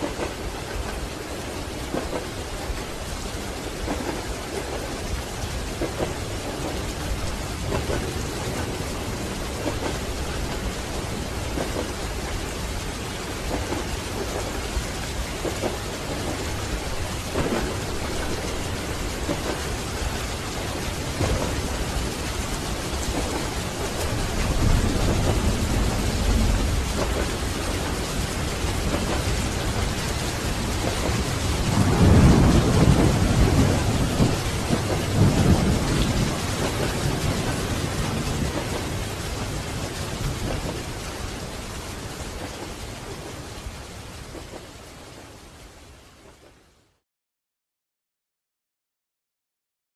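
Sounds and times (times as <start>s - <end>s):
thunder rumbling: 0.0s - 44.7s
heavy rain: 0.0s - 47.0s.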